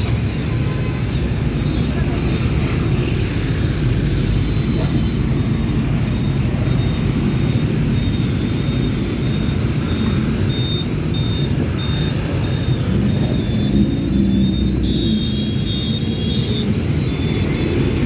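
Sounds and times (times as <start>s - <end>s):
dense motorbike traffic: 0.0s - 18.0s.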